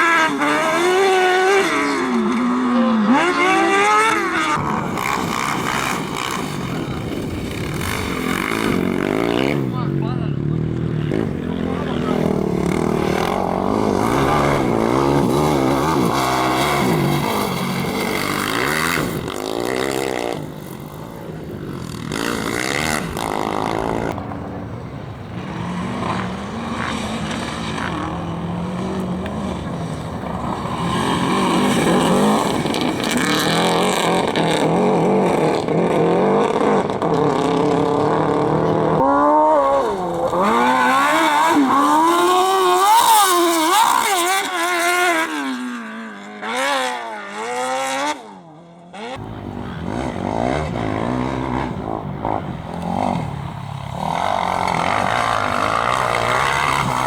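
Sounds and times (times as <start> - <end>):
engine revving hard: 0.0 - 10.2, 11.0 - 21.1, 25.4 - 48.4, 49.0 - 57.0.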